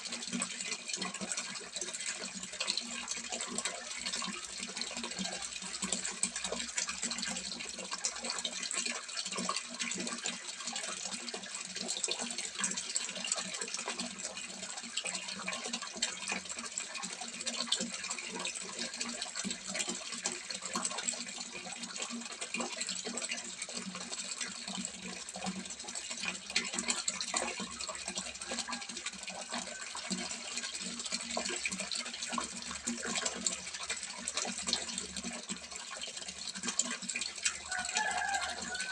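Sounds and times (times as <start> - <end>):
water splashing into pond: 0.0 - 38.9.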